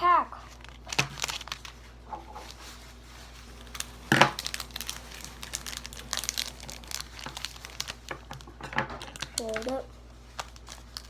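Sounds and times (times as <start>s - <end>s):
foil wrapper crinkling: 0.3s - 11.0s.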